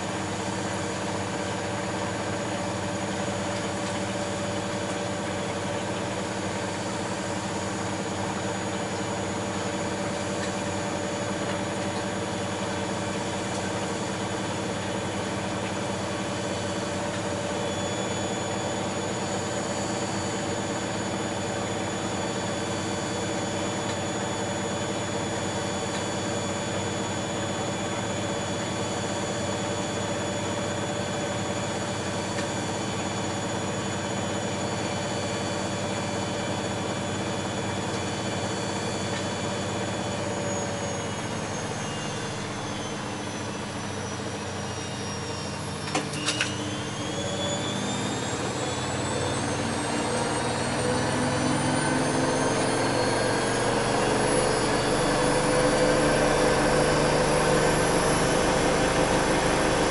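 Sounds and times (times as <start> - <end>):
washing machine drum whine: 0.0 - 59.9.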